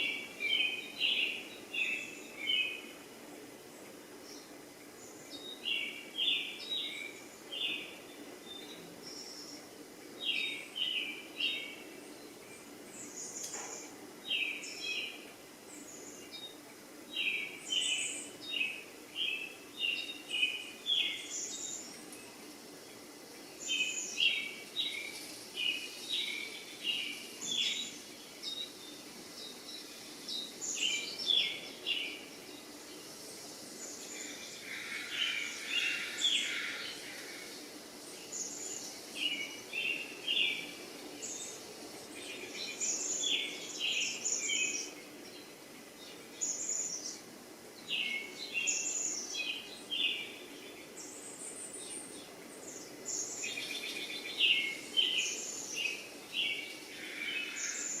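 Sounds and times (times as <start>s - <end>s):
faint background noise: 0.0s - 58.0s
small birds chirping: 0.0s - 58.0s.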